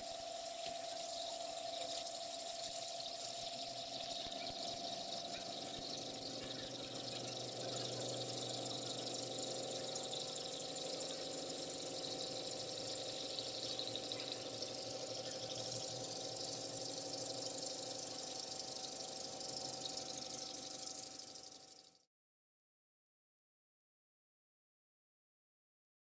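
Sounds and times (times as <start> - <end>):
drilling machine whine: 0.7 - 21.7.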